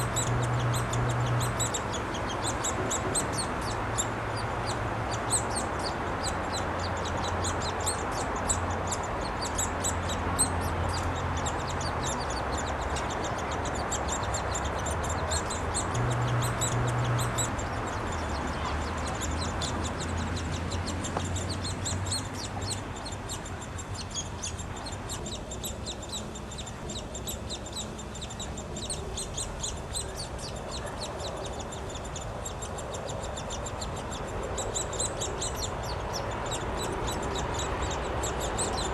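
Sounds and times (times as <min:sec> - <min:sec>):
nestlings chirping: 0:00.0 - 0:38.9
steady low hum: 0:00.0 - 0:38.9.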